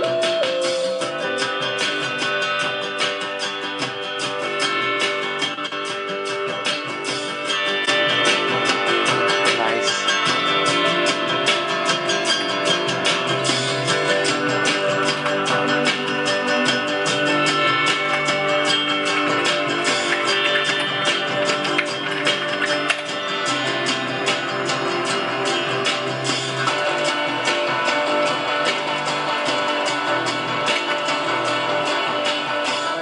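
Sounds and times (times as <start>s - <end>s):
guitar-led instrumental music: 0.0s - 33.0s.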